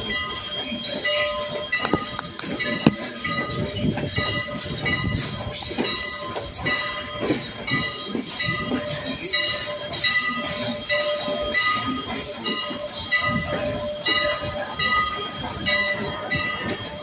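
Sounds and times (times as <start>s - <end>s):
train car rattling: 0.0s - 17.0s
train rumble: 0.0s - 17.0s
train wheels clacking over rail joints: 0.0s - 17.0s.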